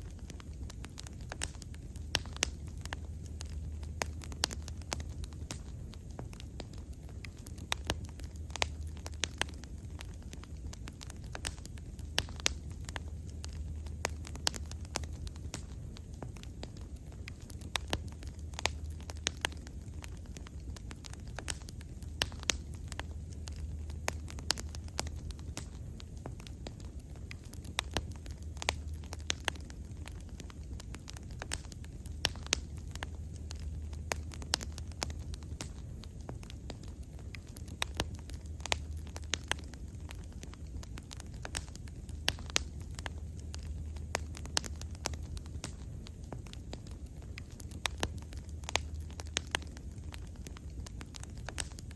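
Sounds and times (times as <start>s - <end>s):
bonfire crackling and popping: 0.0s - 51.9s
low fire rumble: 0.0s - 51.9s.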